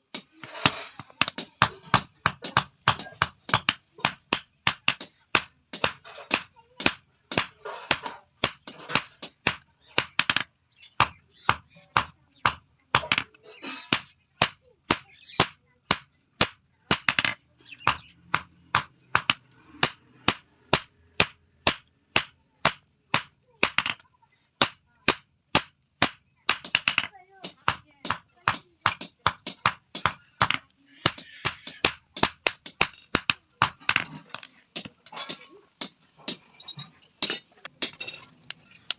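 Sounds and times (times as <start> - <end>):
hammer striking metal on anvil: 0.1 - 13.2, 13.9 - 23.9, 24.6 - 36.4.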